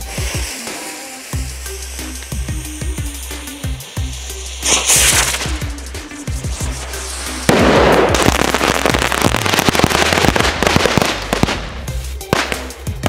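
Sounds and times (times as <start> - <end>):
firework crackling and popping: 0.0 - 13.0.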